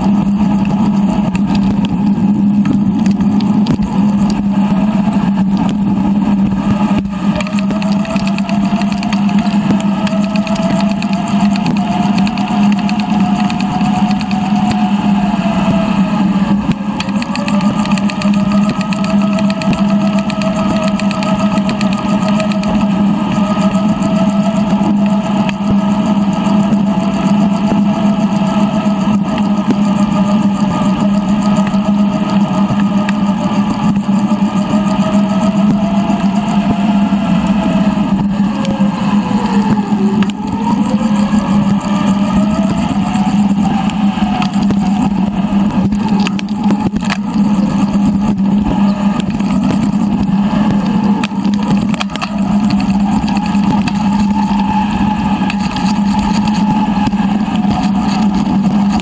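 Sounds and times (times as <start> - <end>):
bicycle riding hum: 0.0 - 59.0
faint whine: 0.0 - 59.0
wind noise: 0.0 - 59.0.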